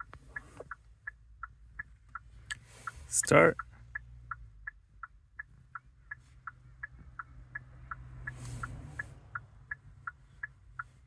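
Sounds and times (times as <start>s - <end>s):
turn-signal flasher ticking: 0.0s - 11.0s.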